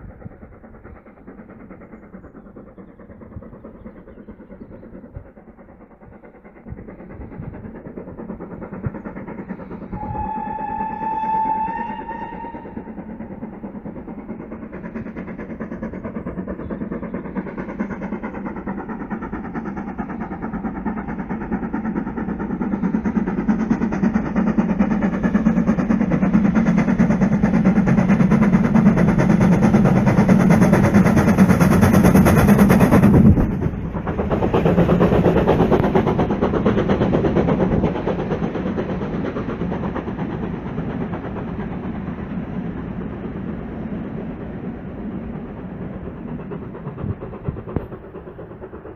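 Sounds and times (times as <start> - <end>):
steam locomotive exhaust beats: 0.0 - 48.9.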